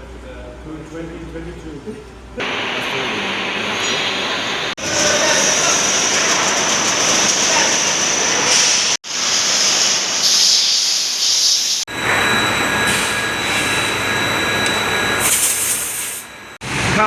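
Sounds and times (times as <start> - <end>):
factory machinery hissing and whining: 2.4 - 17.0.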